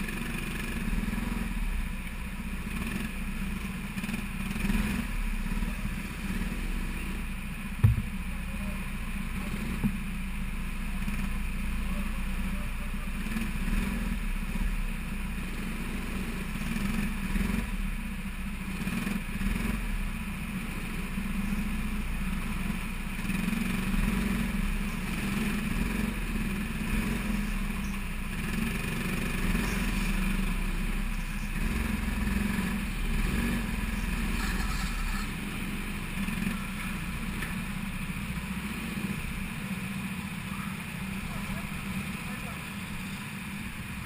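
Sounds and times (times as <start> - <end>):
kart engine idling: 0.0 - 44.0.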